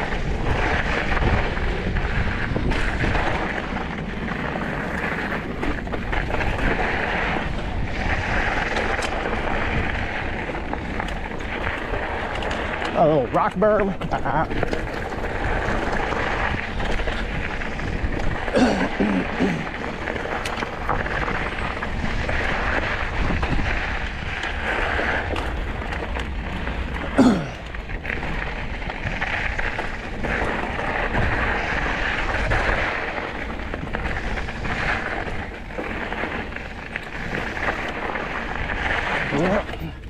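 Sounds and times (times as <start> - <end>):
wind on microphone: 0.0 - 12.8, 14.0 - 40.0
bike rattling on rocks: 0.0 - 40.0
tyres rolling on dirt: 0.0 - 40.0.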